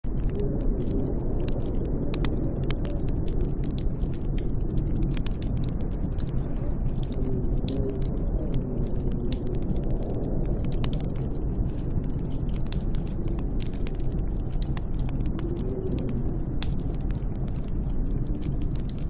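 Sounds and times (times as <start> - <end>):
sharp crackles: 0.0 - 19.0
wind blowing: 0.0 - 19.0
wind howling: 0.0 - 19.0.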